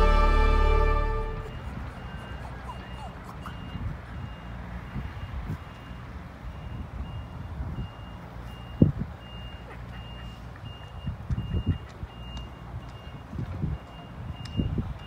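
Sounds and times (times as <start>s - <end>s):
reversing alarm beeping: 0.0s - 14.8s
diesel excavator engines running: 0.0s - 15.0s.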